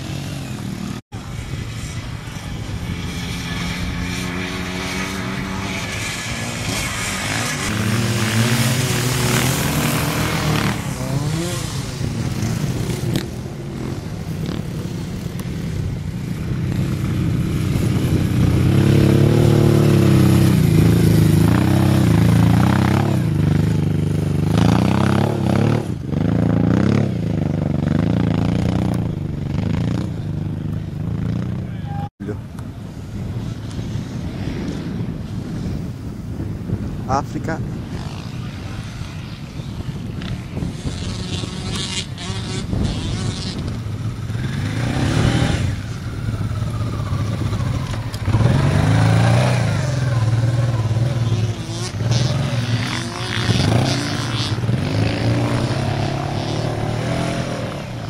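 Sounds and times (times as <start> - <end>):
motorcycle engine revving: 0.0 - 32.1, 37.4 - 58.0.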